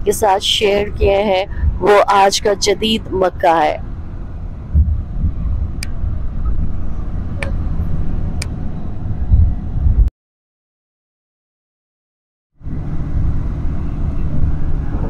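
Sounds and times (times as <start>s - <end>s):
road and engine rumble: 0.0s - 10.1s, 12.6s - 15.0s.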